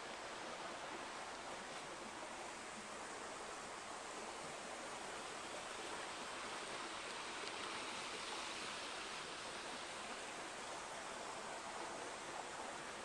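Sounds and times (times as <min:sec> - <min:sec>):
rushing forest ambience: 0:00.0 - 0:13.0.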